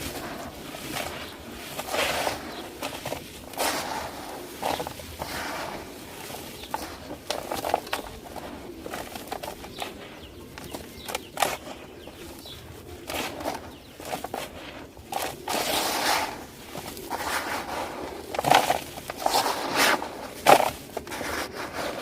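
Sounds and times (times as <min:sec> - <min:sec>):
dry clay crumbling by hand: 0:00.0 - 0:22.0.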